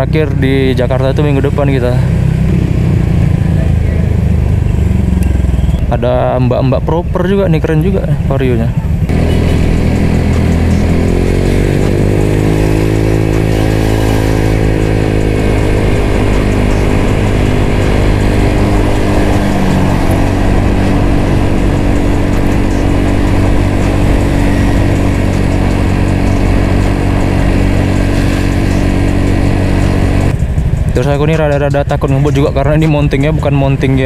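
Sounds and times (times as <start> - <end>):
scooter engine cruising: 0.0 - 34.0.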